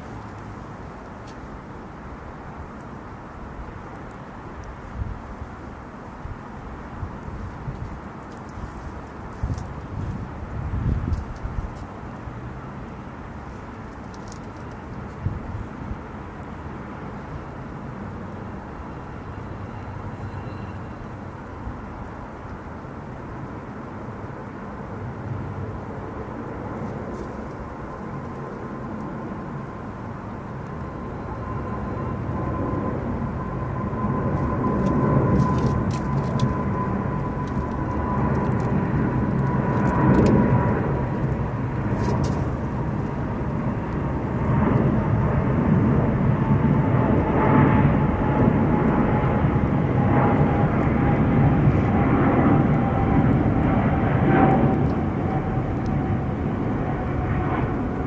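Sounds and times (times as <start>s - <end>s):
airliner engines passing: 0.0s - 58.0s.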